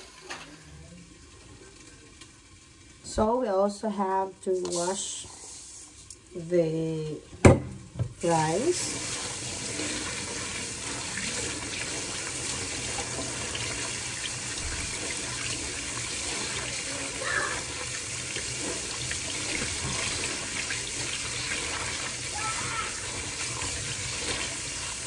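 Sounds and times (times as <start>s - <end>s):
tap water running: 4.0s - 25.0s.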